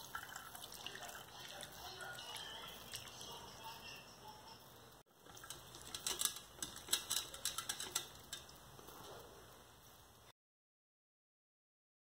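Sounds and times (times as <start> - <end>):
faint steady hiss: 0.0 - 10.3.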